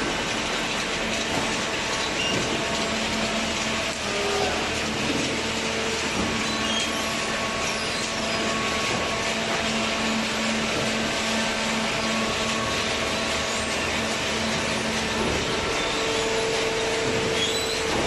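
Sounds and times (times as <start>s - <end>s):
hydraulic baler running: 0.0s - 18.0s.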